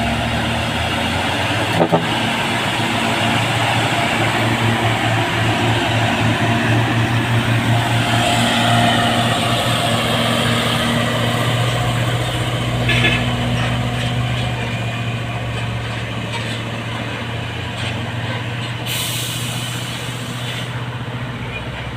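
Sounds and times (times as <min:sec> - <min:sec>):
diesel truck engine throbbing: 0:00.0 - 0:21.9.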